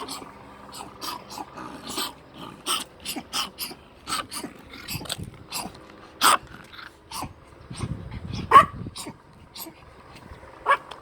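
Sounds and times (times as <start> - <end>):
dogs barking: 0.0 - 9.8, 10.6 - 11.0.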